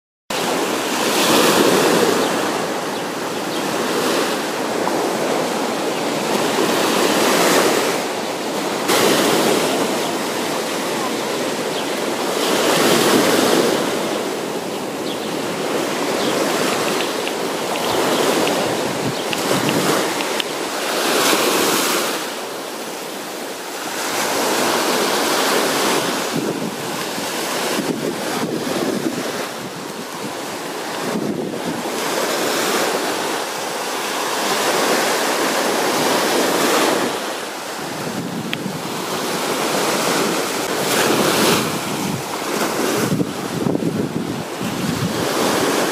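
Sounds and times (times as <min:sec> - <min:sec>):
small waves breaking on beach: 0:00.3 - 0:45.9.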